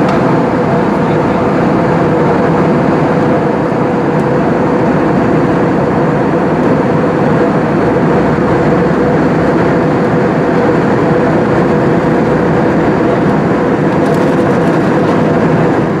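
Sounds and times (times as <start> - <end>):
airplane cabin engine roar: 0.0 - 16.0.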